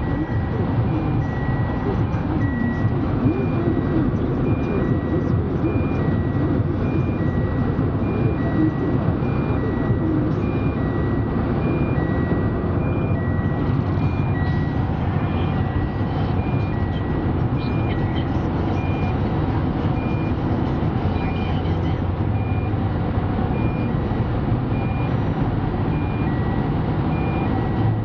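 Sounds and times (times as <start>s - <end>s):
road and engine noise: 0.0s - 28.0s.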